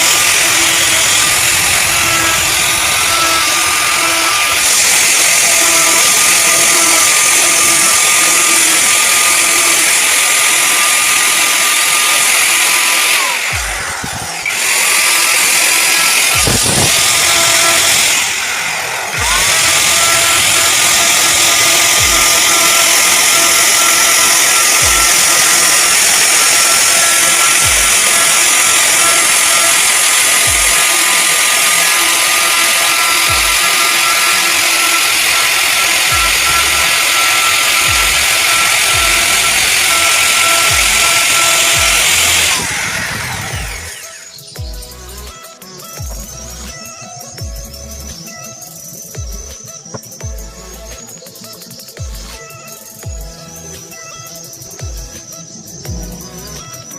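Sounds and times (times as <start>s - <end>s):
electric power tool running: 0.0s - 56.9s.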